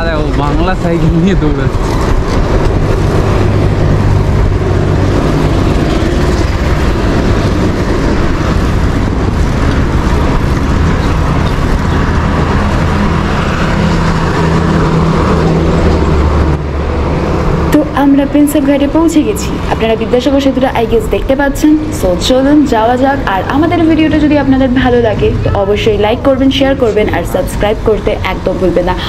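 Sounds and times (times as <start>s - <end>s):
city road traffic: 0.0s - 29.0s.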